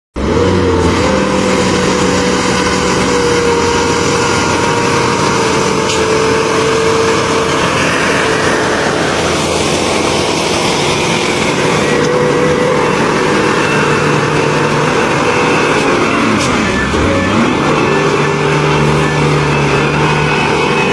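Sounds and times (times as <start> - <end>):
construction machinery running: 0.1 - 20.9
held drifting tones: 0.2 - 20.9.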